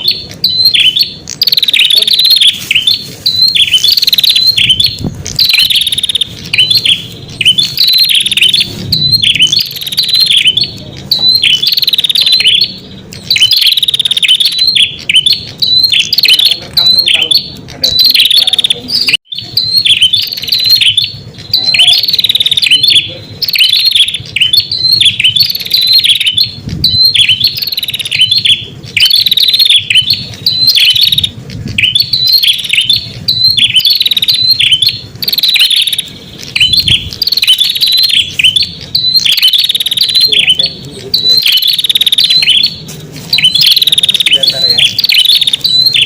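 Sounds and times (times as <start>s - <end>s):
bird singing high chirps: 0.0s - 46.0s.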